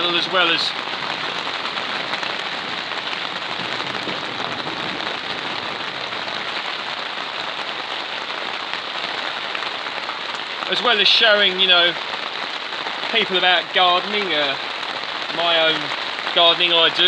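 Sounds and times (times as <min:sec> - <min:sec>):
heavy rain on a plastic roof: 0:00.0 - 0:17.0.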